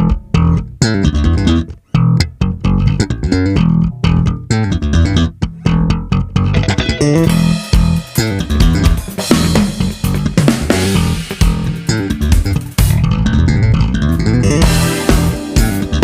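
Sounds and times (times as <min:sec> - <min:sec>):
bass guitar groove: 0:00.0 - 0:16.0
plucked guitar: 0:00.0 - 0:16.0.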